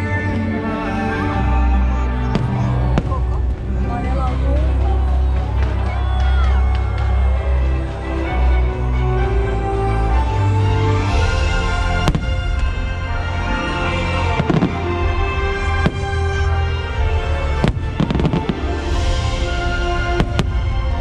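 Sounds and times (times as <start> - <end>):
loud show music: 0.0 - 21.0.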